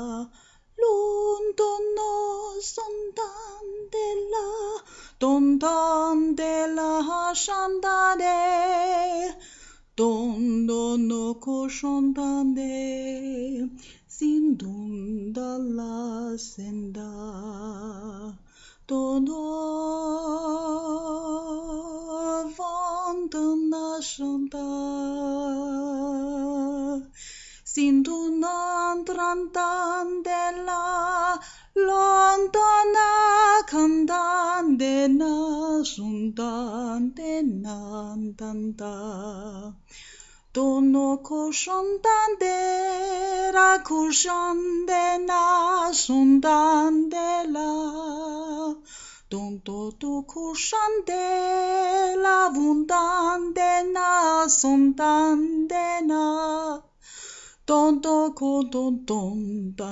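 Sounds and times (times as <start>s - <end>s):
woman singing unaccompanied: 0.0s - 9.4s, 10.0s - 39.9s, 40.5s - 57.0s, 57.7s - 59.9s.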